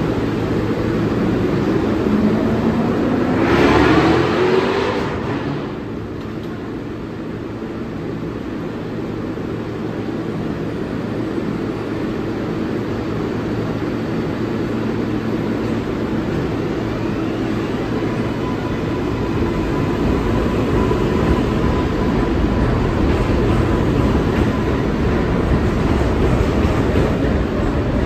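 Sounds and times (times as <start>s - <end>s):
subway train whine and hum: 0.0s - 28.0s.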